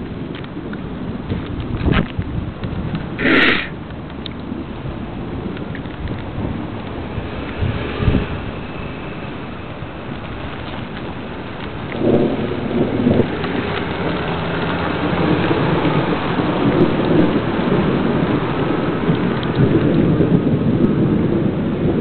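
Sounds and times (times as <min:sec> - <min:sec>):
steady rain: 0:00.0 - 0:22.0
thunder rumbling: 0:00.0 - 0:22.0.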